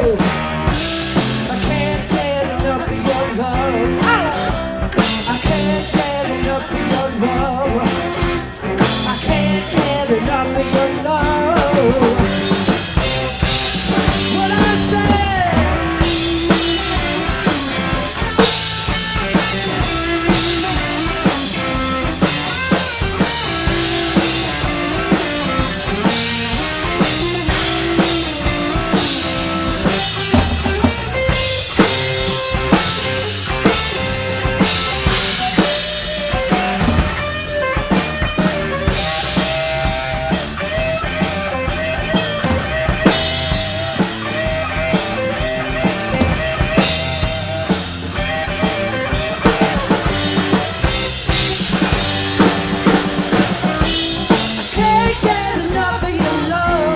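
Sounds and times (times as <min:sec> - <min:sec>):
drum kit: 0:00.0 - 0:56.9
rock band instrumental: 0:00.0 - 0:56.9.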